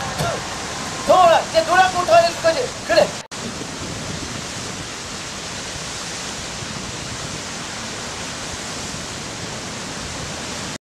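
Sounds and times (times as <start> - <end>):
steady rushing hiss: 0.0 - 10.8.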